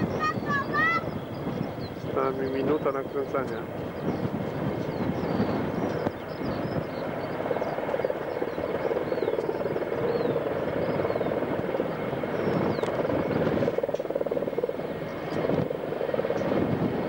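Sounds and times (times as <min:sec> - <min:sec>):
helicopter rotors beating: 0:00.0 - 0:17.0.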